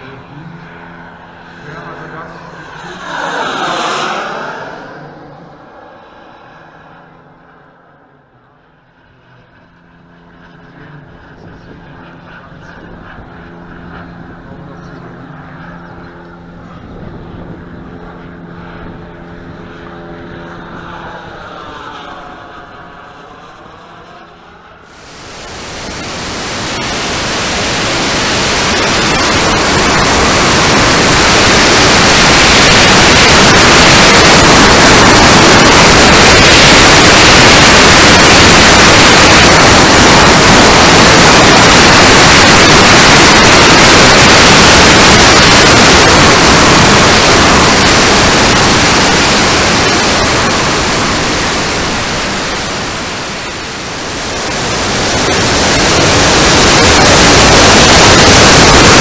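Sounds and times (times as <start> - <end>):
jet turbine and airflow rush: 0.0 - 59.0.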